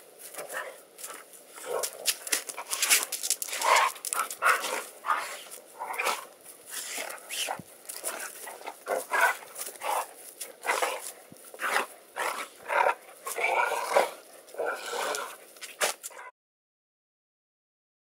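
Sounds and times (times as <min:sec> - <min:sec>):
dogs barking and growling: 0:00.0 - 0:16.3.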